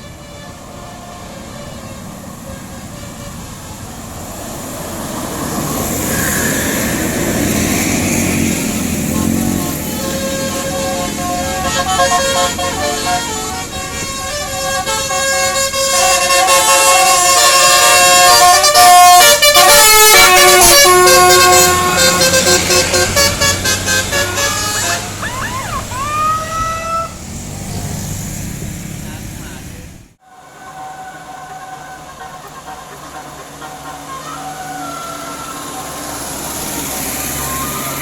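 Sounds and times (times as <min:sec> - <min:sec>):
multi-tone bus horn melody: 0:00.0 - 0:27.2, 0:30.2 - 0:38.0.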